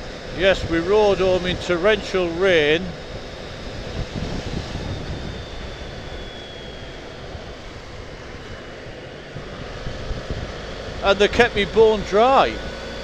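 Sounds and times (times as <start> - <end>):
wind rush: 0.0 - 12.8
motorcycle engine drone: 0.0 - 13.0.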